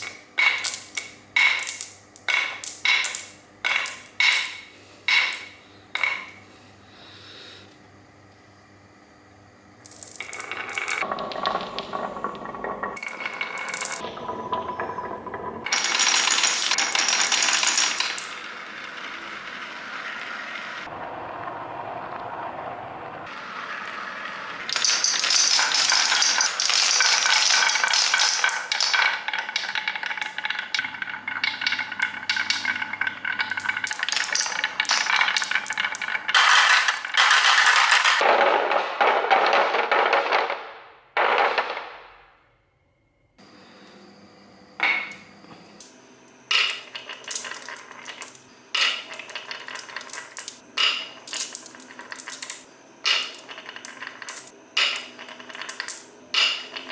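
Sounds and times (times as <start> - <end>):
marbles rattling through marble run: 0.0 - 6.3, 9.8 - 20.8, 23.6 - 42.1, 46.5 - 56.9.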